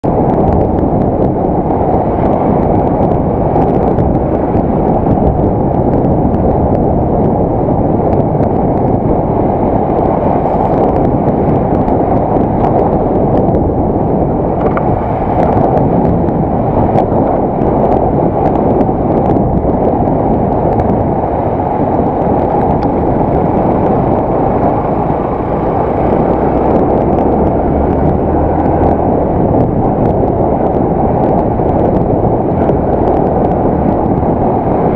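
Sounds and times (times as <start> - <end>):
motorcycle engine rumbling: 0.0 - 34.9
wind rush: 0.0 - 34.9.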